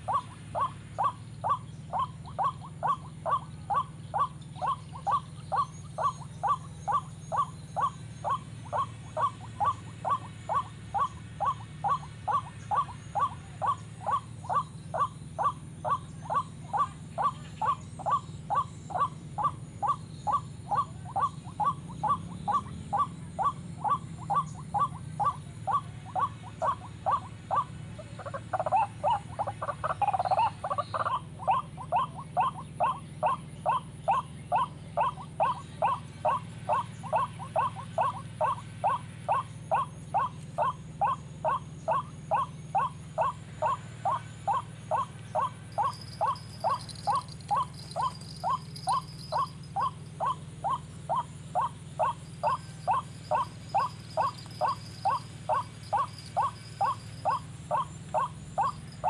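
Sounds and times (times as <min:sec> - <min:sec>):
waterhen calls: 0:00.0 - 0:59.0.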